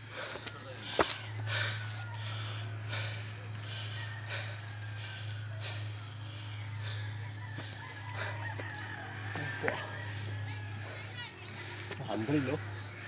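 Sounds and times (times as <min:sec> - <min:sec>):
person panting: 0:00.0 - 0:12.0
insects chirping: 0:00.0 - 0:13.0
steady low hum: 0:00.0 - 0:13.0.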